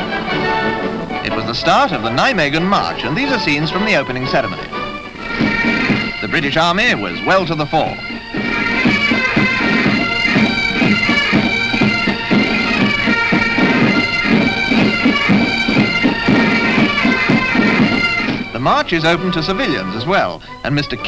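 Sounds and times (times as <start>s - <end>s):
bagpipes playing a march: 0.0s - 21.0s
drums beating: 0.0s - 21.0s.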